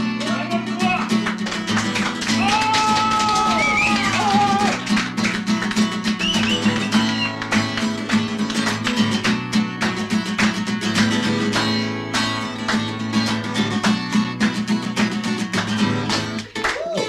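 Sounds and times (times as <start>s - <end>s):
strummed flamenco acoustic guitar: 0.0s - 17.0s.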